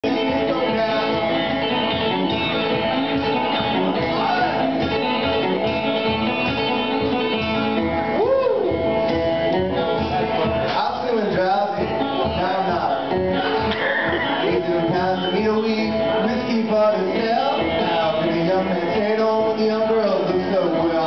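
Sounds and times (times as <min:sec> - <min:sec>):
man singing: 0:00.0 - 0:05.7, 0:09.7 - 0:21.0
banjo picked quickly: 0:00.0 - 0:21.0.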